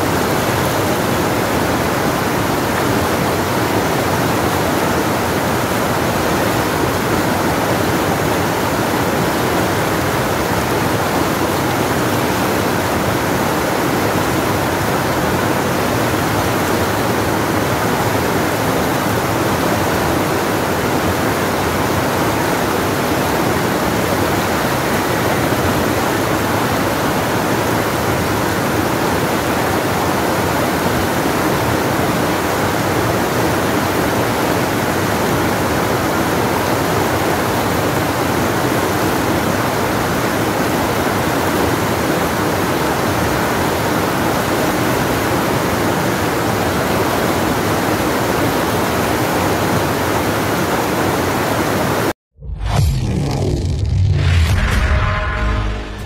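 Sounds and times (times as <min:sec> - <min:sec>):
river rapids roaring: 0:00.0 - 0:52.1.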